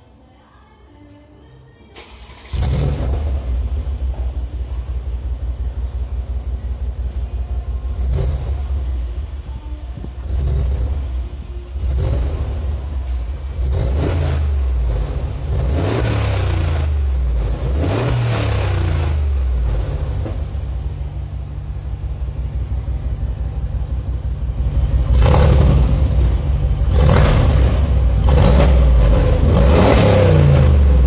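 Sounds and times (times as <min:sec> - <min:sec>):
car engine idling and revving: 0:02.0 - 0:31.0.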